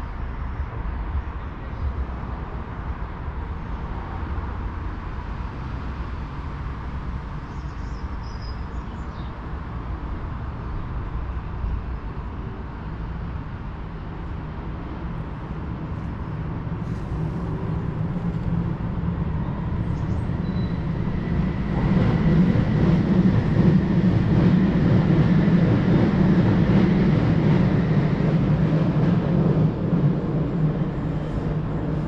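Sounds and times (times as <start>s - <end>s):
underground train rumbling: 0.0s - 32.0s.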